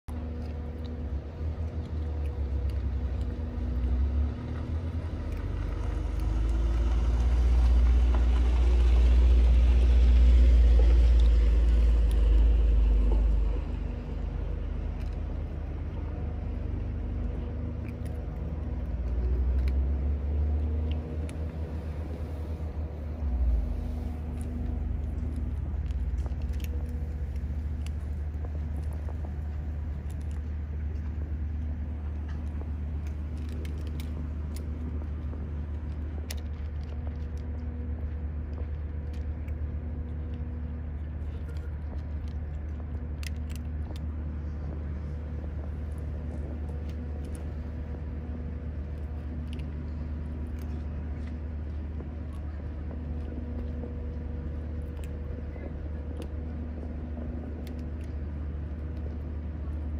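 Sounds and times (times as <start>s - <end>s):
kittens crunching dry kibble: 0.1s - 59.9s
low machine hum: 0.1s - 59.9s.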